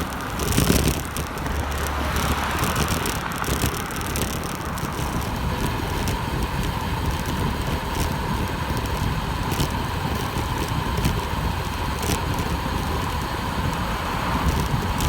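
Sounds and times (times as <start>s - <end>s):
bicycle tyres on wet pavement: 0.0s - 15.0s
sharp ticks: 0.0s - 15.0s.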